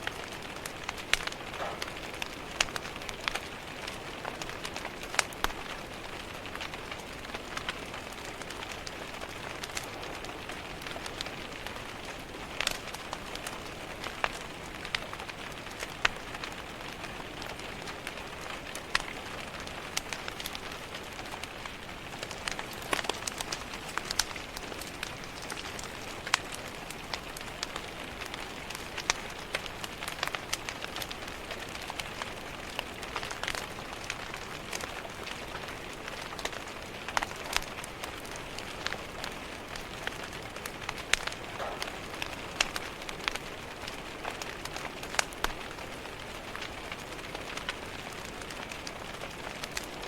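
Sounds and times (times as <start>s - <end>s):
rain pattering on window glass: 0.0s - 50.0s
wood fire crackling and popping: 0.0s - 50.0s.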